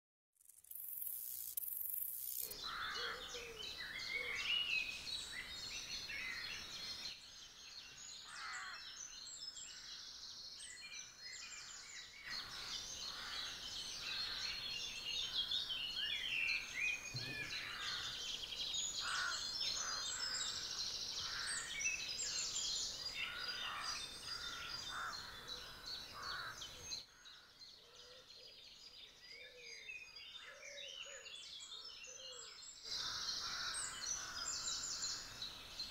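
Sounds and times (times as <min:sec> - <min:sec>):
songbirds chorus: 0:02.2 - 0:35.9.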